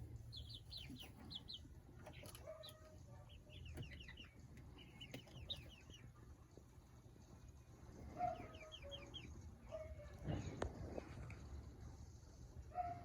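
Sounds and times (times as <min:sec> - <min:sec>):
chicks peeping: 0:00.0 - 0:11.7.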